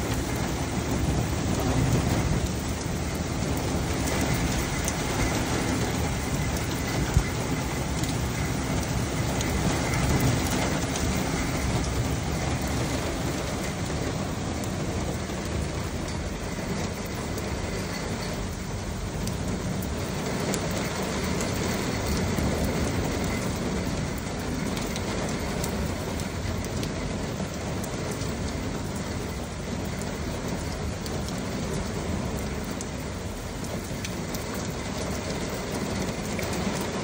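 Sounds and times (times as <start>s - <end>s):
heavy rain on street: 0.0s - 37.0s.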